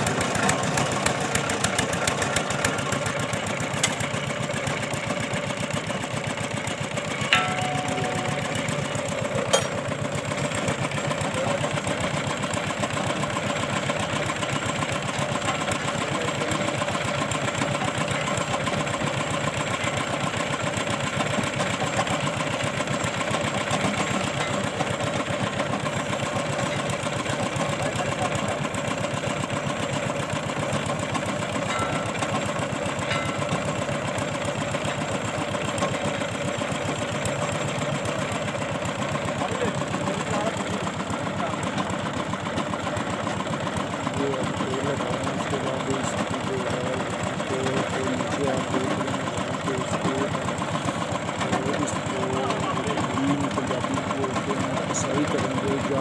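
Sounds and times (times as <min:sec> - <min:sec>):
engine chugging: 0:00.0 - 0:56.0.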